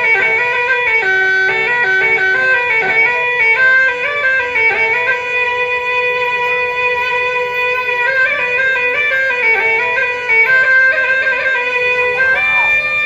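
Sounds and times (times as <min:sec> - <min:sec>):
shrill wind instrument long notes: 0:00.0 - 0:13.0.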